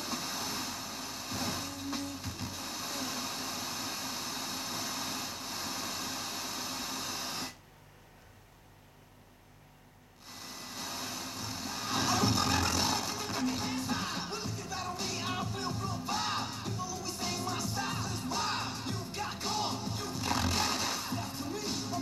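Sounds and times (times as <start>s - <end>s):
radio tuner hiss: 0.0s - 7.6s, 10.2s - 22.0s.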